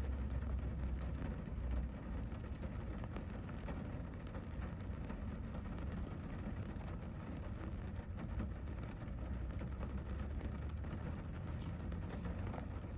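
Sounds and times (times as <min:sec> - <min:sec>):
low constant rumble: 0:00.0 - 0:12.9
rain drops ticking: 0:00.0 - 0:12.9.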